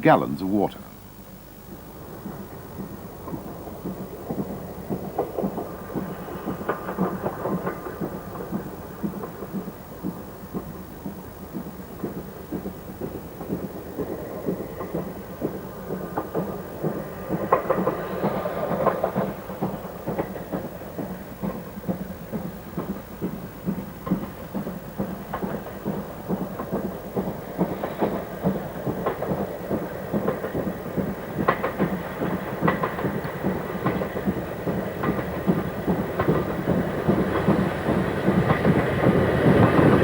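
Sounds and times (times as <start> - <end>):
steam train rumbling past: 1.7 - 40.0
wheels clattering on rails: 2.8 - 40.0.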